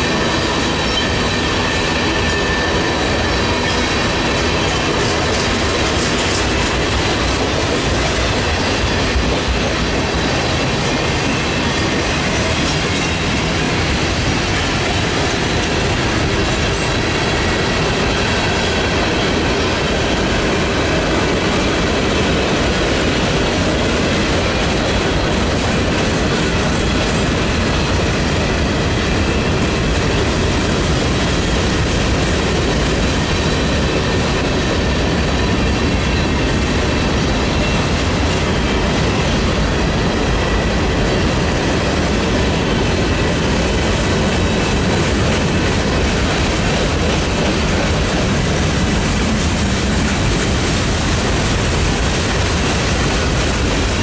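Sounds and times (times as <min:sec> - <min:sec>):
train wheels running on rails: 0:00.0 - 0:54.0.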